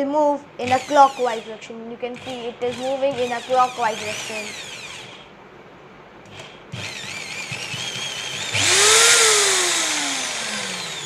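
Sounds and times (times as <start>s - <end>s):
hammer drill motor whine: 0.6s - 1.6s, 2.2s - 5.3s, 6.3s - 11.0s.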